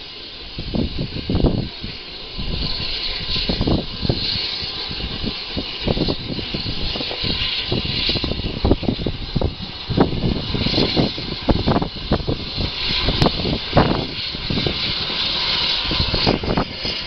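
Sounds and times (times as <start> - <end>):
steady hiss: 0.0 - 17.0
wind buffeting microphone: 0.0 - 17.0.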